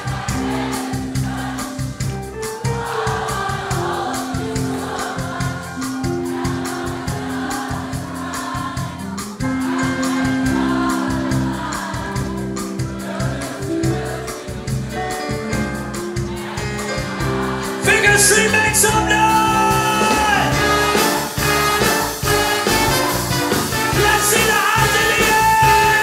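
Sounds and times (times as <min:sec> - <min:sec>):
crowd singing along: 0:00.0 - 0:26.0
live swing band playing: 0:00.0 - 0:26.0.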